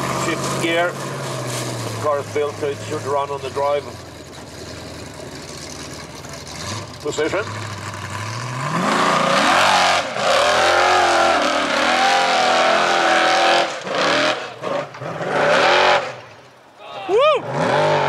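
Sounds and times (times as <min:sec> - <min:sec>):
buggy engine revving hard: 0:00.0 - 0:16.3, 0:17.4 - 0:18.0.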